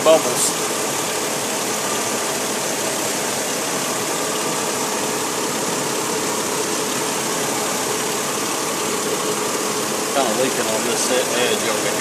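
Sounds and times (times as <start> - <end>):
minivan engine idling: 0.0 - 12.0.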